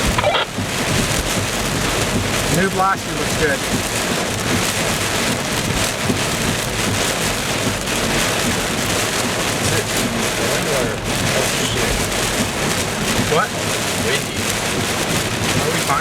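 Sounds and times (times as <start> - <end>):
heavy rain beating on a car: 0.0 - 16.0.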